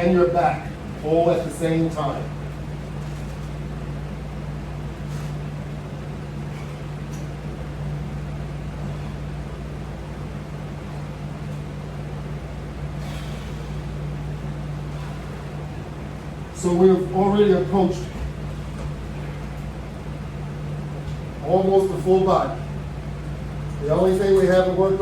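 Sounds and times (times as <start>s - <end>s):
room hum with hiss: 0.0s - 25.0s.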